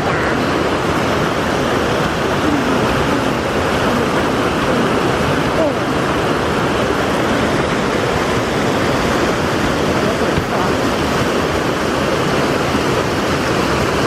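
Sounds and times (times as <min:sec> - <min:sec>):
stream rushing: 0:00.0 - 0:14.0.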